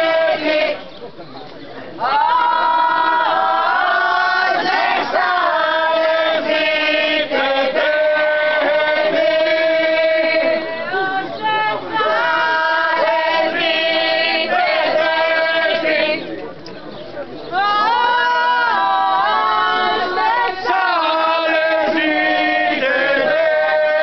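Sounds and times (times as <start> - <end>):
group singing unaccompanied: 0.0 - 0.9, 2.0 - 16.4, 17.5 - 24.0.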